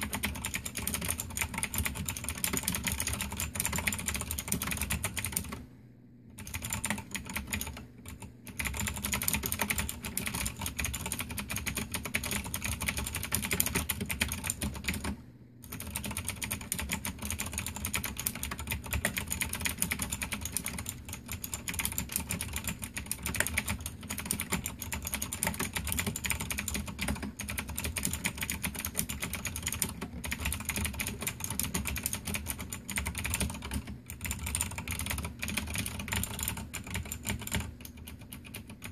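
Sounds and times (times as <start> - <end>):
clicky keyboard typing: 0.0 - 5.7, 6.3 - 38.9.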